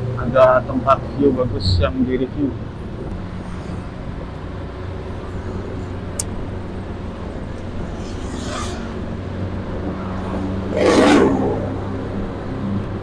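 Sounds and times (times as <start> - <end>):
motorcycle engine cruising: 0.0 - 13.0
road noise: 0.0 - 13.0.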